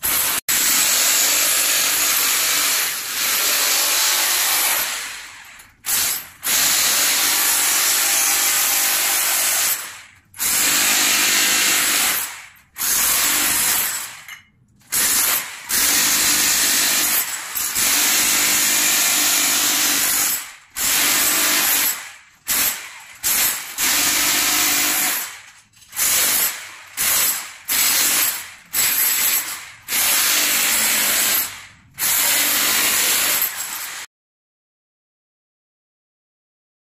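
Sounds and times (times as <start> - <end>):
rotary hammer chiselling tiles: 0.0 - 34.1.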